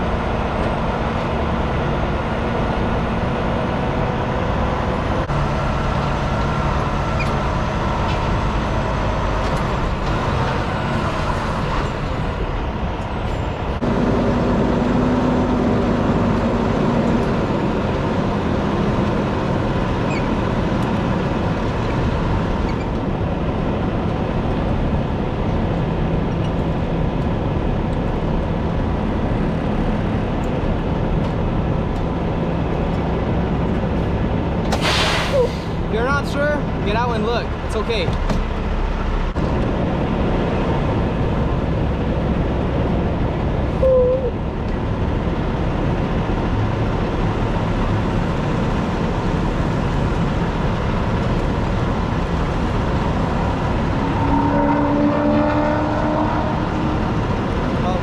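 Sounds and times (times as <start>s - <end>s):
road noise: 0.0s - 58.0s
truck diesel engine droning: 0.0s - 58.0s.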